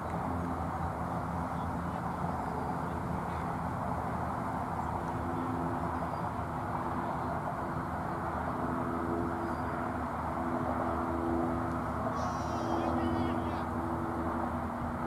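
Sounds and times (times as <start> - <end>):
low constant hum: 0.0 - 15.0.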